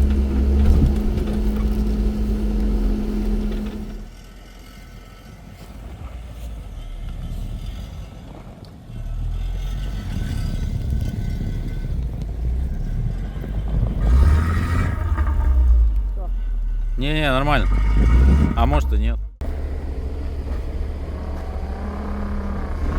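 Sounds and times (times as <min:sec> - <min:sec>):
vehicle engine rumbling: 0:00.0 - 0:22.9.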